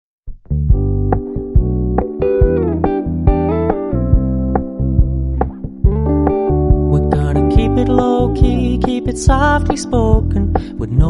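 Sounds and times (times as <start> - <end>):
pop music with keyboard chords: 0.7 - 11.0.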